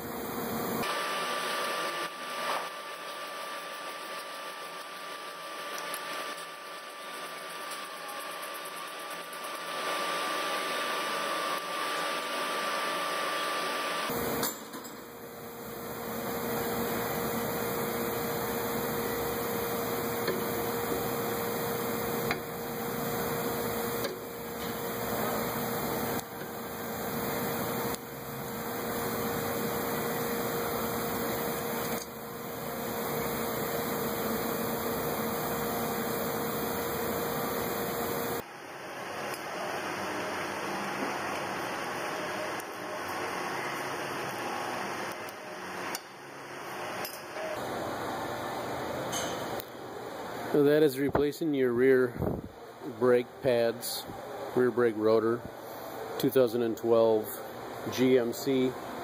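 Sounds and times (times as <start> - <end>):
machine hum and hiss: 0.0 - 59.0.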